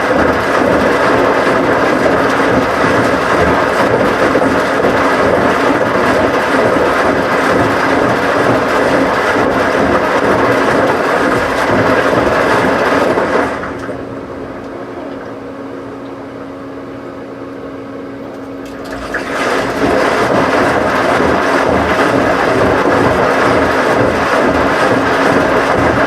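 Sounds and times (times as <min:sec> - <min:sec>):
washing machine running: 0:00.0 - 0:26.0.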